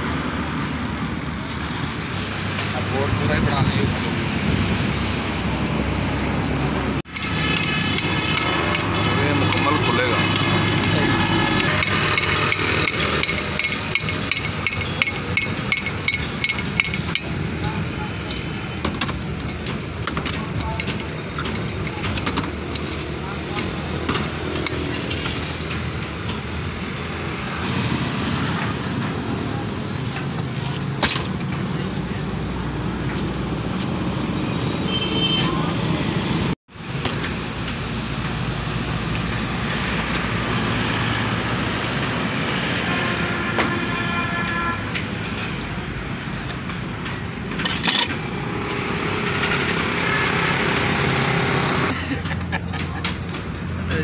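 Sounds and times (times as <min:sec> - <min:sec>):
road traffic and engines: 0:00.0 - 0:54.0.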